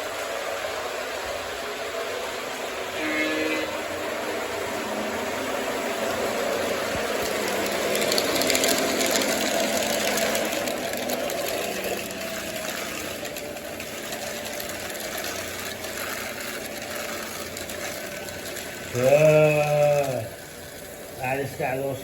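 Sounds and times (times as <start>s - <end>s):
model train whirring on track: 0.0s - 22.0s.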